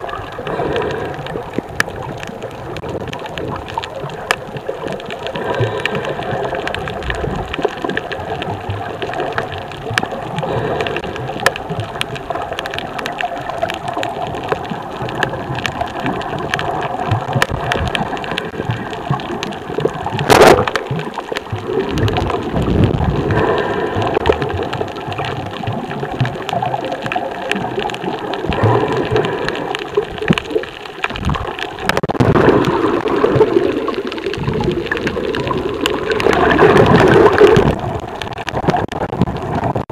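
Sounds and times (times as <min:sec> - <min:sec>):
dense crackling clicks: 0:00.0 - 0:39.9
muffled water noise: 0:00.0 - 0:39.9.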